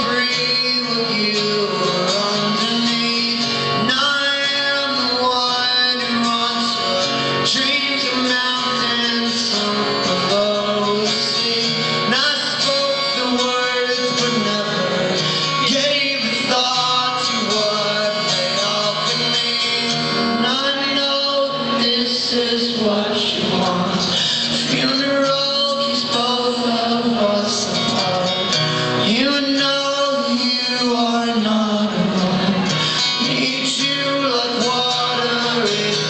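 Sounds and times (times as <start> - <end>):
acoustic guitar strumming: 0.0 - 36.0
person singing: 0.0 - 36.0.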